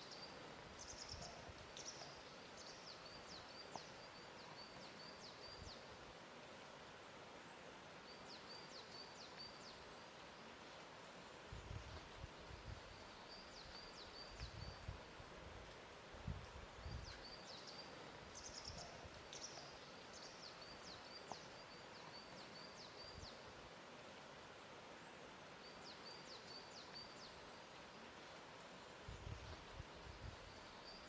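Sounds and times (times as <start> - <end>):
soft steady hiss: 0.0 - 31.0.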